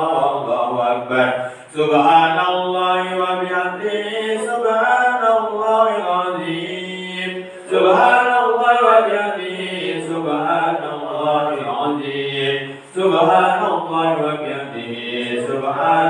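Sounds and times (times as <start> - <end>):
men chanting a cappella: 0.0 - 16.0.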